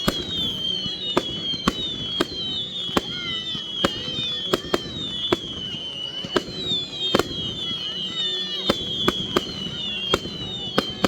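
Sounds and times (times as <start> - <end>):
fireworks bangs: 0.0 - 11.0
high shrill wavering sound: 0.0 - 11.0.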